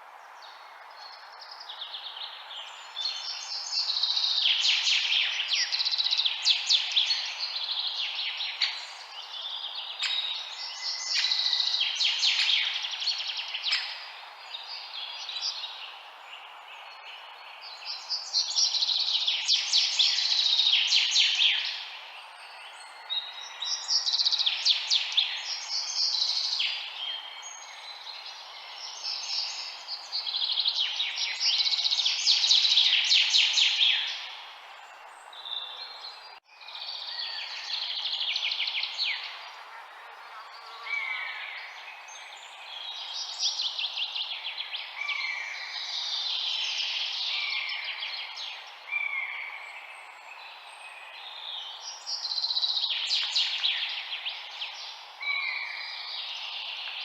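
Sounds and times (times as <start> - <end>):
songbirds trilling and whistling: 0.0 - 57.0.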